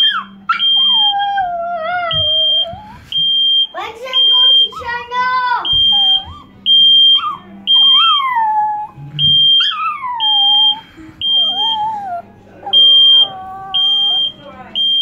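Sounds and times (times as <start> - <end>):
smoke detector beeping: 0.0 - 1.3, 2.0 - 8.3, 9.2 - 11.9, 12.7 - 15.0
dog howling: 0.0 - 3.2, 4.1 - 14.4.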